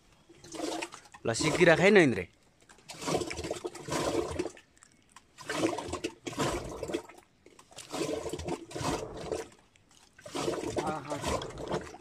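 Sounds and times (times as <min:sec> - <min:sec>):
wet sloshing swishes of churning: 0:00.4 - 0:12.0.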